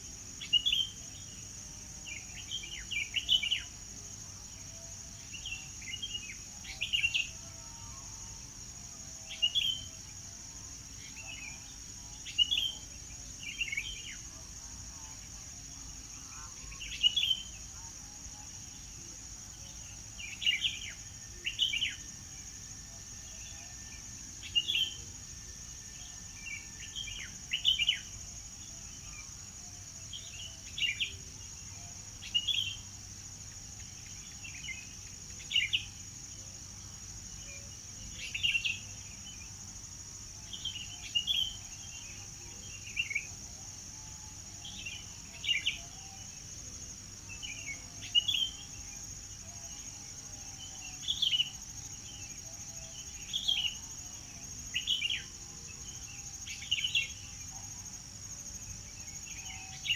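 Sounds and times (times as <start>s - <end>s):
steady high-pitched hiss: 0.0s - 59.9s.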